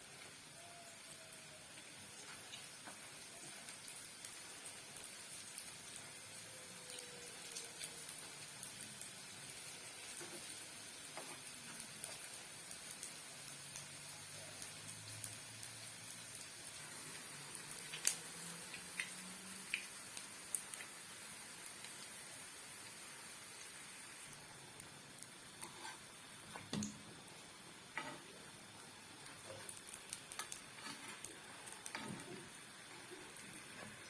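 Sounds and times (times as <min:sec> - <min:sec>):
food sizzling in hot oil: 0:00.0 - 0:34.0
oil crackling and popping: 0:01.3 - 0:34.0.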